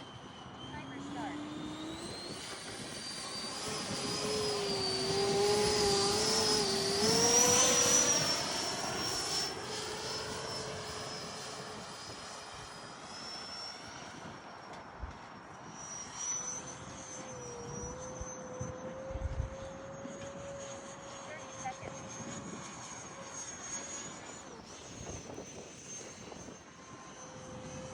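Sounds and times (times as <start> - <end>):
electric ducted fan jet whine: 0.0 - 27.9.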